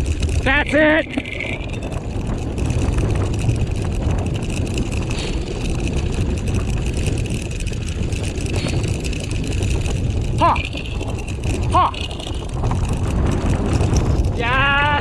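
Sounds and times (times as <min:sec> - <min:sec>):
wheels and frame rumbling: 0:00.0 - 0:15.0
wind buffeting microphone: 0:00.0 - 0:15.0.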